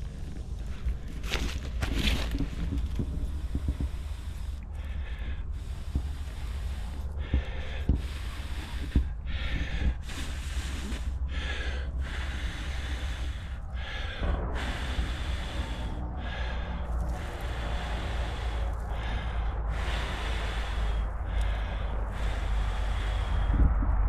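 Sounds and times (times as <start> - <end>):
low wind rumble: 0.0 - 24.0
person blowing puffs of breath: 3.1 - 23.8.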